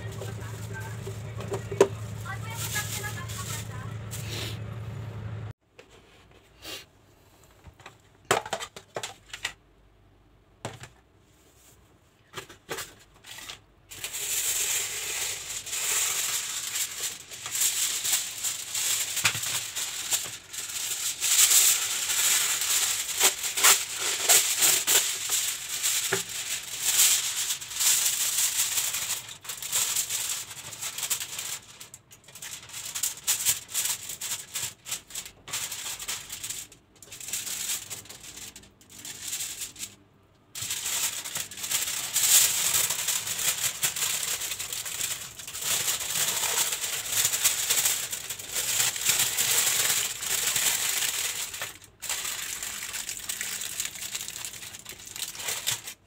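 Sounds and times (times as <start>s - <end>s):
aluminium foil crinkling: 0.0s - 4.4s, 12.8s - 56.0s.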